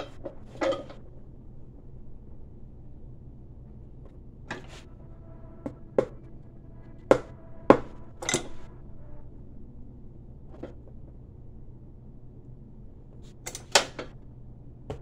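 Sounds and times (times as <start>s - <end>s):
low shop hum: 0.0s - 15.0s.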